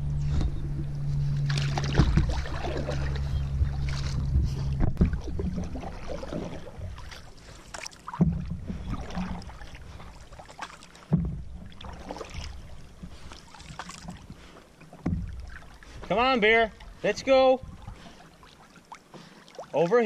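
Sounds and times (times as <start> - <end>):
swish of moving water: 0.1 - 20.0
paddle strokes in water: 0.2 - 20.0.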